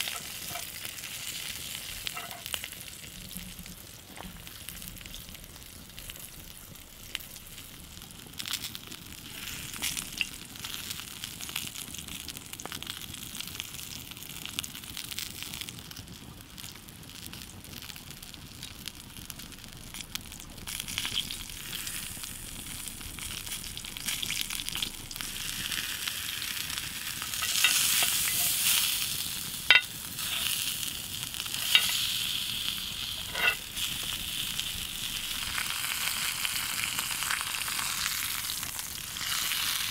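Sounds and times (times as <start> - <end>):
steak sizzling in a skillet: 0.0 - 39.9.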